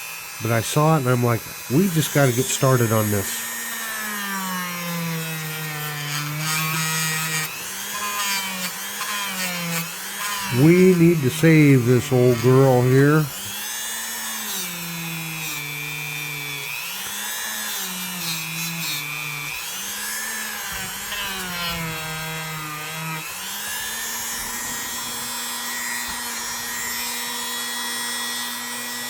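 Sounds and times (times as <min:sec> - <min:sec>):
small electric power tool motor: 0:00.0 - 0:29.0.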